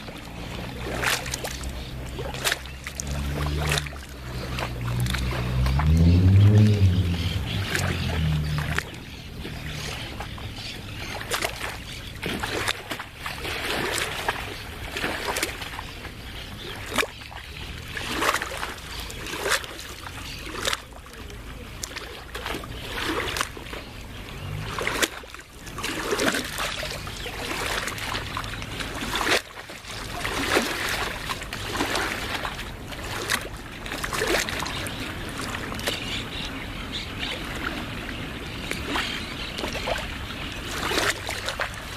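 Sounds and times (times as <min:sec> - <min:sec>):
small waves lapping: 0:00.0 - 0:41.9.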